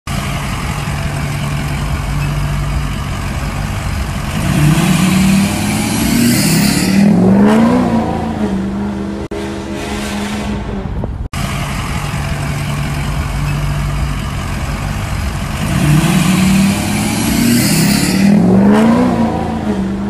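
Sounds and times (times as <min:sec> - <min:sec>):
vehicle engine idling and revving: 0:00.1 - 0:20.0.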